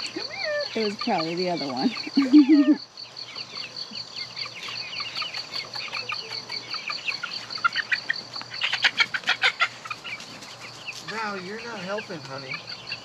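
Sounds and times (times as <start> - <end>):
chicks cheeping: 0.0 - 13.0
insect chirping: 0.0 - 13.0.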